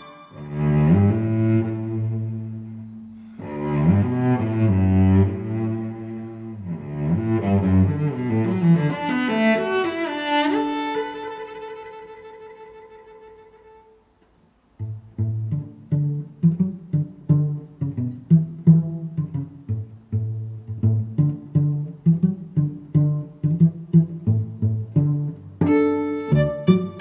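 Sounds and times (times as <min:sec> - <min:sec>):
bowed strings slow melody: 0:00.0 - 0:14.0, 0:14.8 - 0:27.0.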